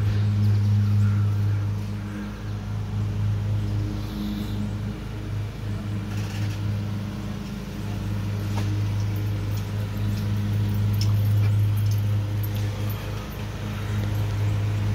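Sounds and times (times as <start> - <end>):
low machine hum: 0.0 - 14.9.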